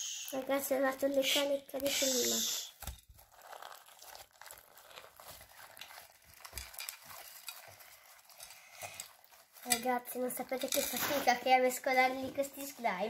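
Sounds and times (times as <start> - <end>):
slime squishing and crackling: 0.3 - 13.0.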